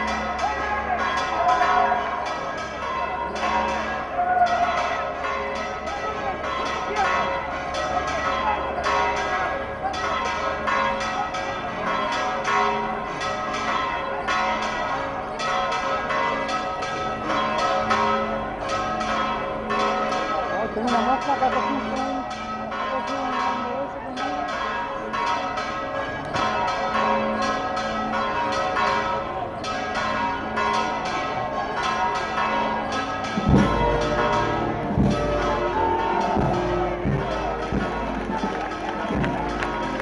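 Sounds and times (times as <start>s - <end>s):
church bells pealing: 0.0s - 40.0s
crowd noise: 0.0s - 40.0s.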